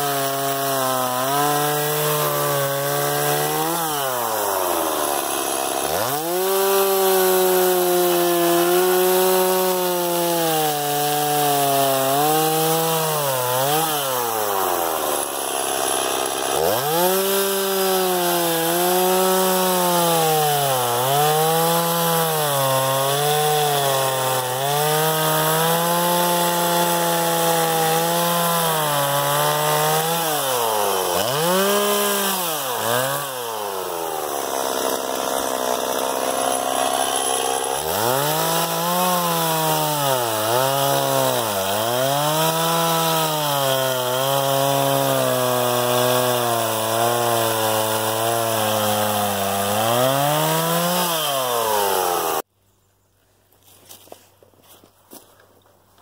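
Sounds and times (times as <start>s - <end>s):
chainsaw cutting a log: 0.0s - 52.5s.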